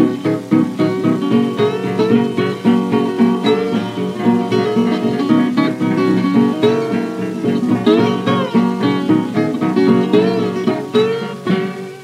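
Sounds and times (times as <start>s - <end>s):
acoustic guitar picked notes: 0.0s - 12.0s.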